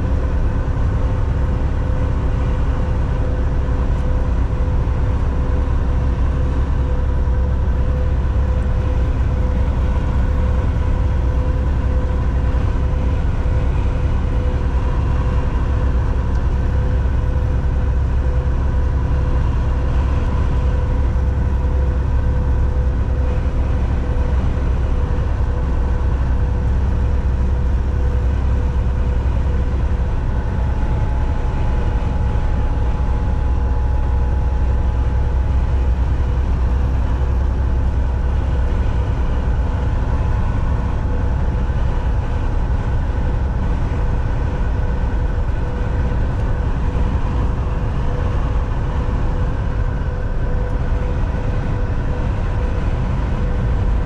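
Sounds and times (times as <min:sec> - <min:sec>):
faint steady whine: 0:00.0 - 0:54.0
road noise: 0:00.0 - 0:54.0
truck engine drone: 0:00.0 - 0:54.0.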